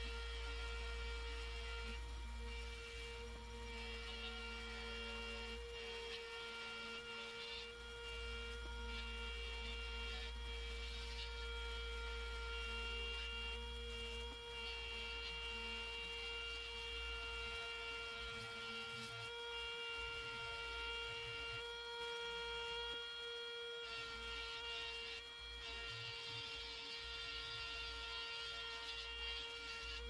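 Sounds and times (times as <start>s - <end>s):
buffing motor humming: 0.0s - 30.0s.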